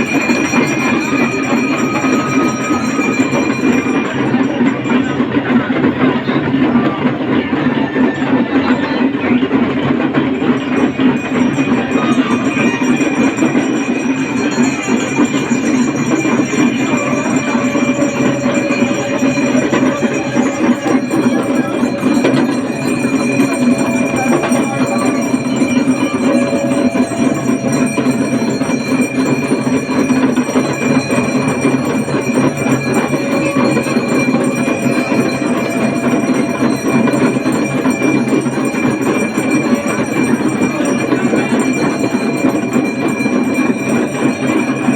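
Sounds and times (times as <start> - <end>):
hand drums rattling in a roll: 0.0 - 44.9
steady ringing tones: 0.0 - 44.9.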